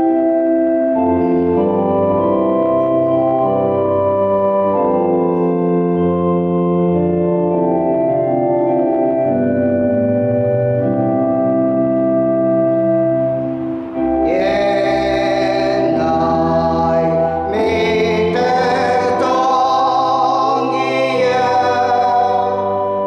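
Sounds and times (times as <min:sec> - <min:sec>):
organ playing a hymn: 0:00.0 - 0:23.0.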